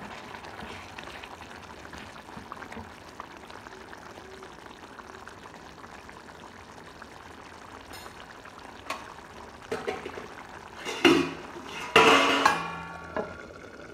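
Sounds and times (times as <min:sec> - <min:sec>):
gravy simmering bubbling hiss: 0:00.0 - 0:13.9.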